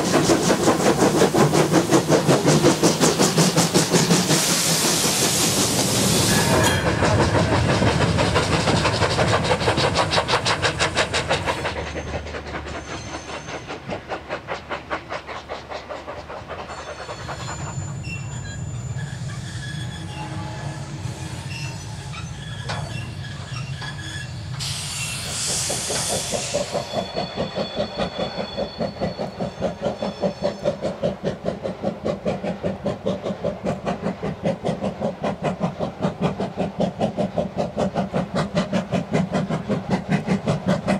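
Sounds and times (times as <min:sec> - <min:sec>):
steam hiss: 0:00.0 - 0:40.9
steam locomotive exhaust beat: 0:00.0 - 0:40.9.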